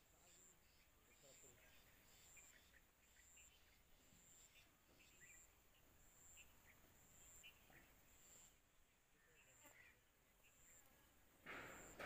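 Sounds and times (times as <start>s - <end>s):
bird chirps: 0.0s - 11.2s.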